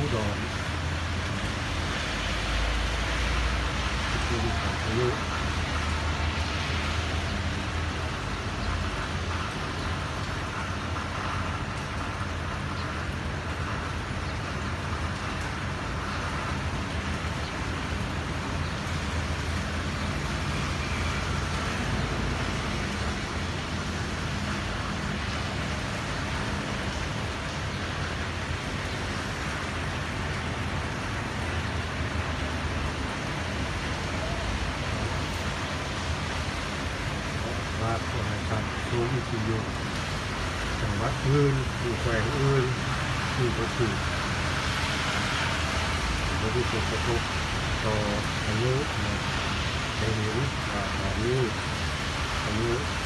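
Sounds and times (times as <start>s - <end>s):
passing traffic rumble: 0.0s - 53.0s
rain hiss: 0.0s - 53.0s
tyres on wet road: 0.0s - 53.0s.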